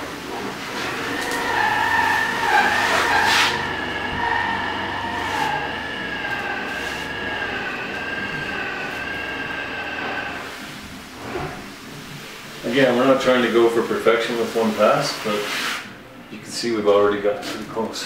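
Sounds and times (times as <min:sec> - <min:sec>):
float scraping wall plaster: 0:00.0 - 0:11.7, 0:12.6 - 0:15.9
steady high whine: 0:00.0 - 0:15.2.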